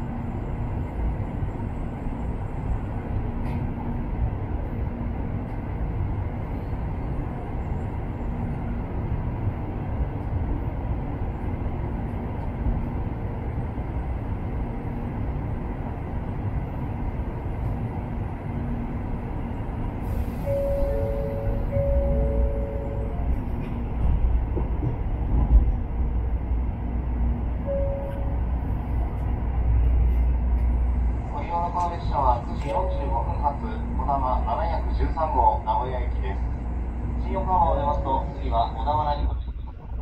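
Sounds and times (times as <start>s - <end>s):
train low rumble: 0.0s - 40.0s.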